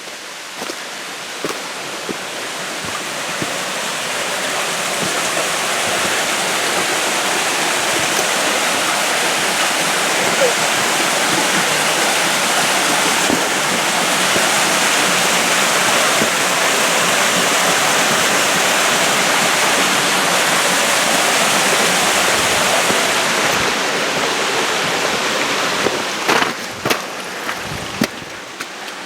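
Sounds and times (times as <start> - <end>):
creek water rushing: 0.0 - 29.0.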